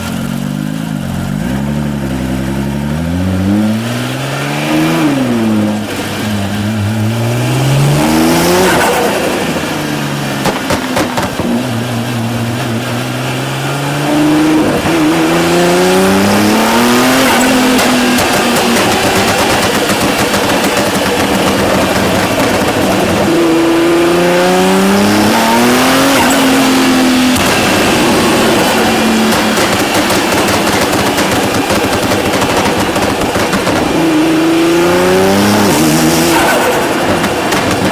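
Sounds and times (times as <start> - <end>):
car engine accelerating: 0.0 - 37.9
exhaust crackles and pops: 0.0 - 37.9.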